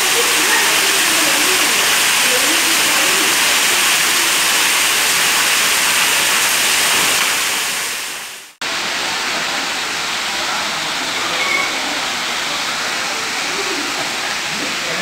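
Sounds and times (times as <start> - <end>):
water pouring onto tiled floor: 0.0 - 15.0.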